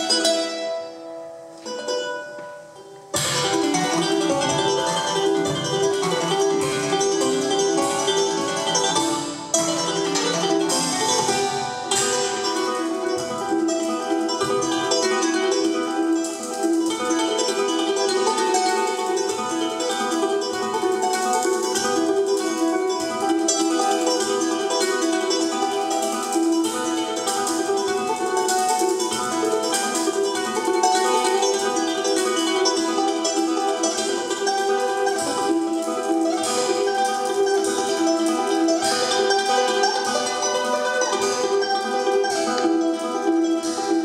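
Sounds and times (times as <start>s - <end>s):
plucked string instruments duo: 0.0s - 44.0s.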